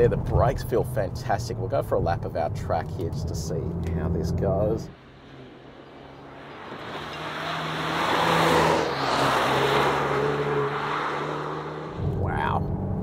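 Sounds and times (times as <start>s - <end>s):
car engine and tyres passing: 0.0s - 13.0s.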